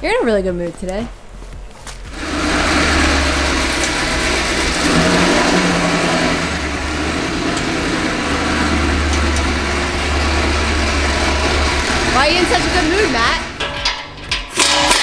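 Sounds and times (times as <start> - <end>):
car engine idling: 1.3 - 15.0.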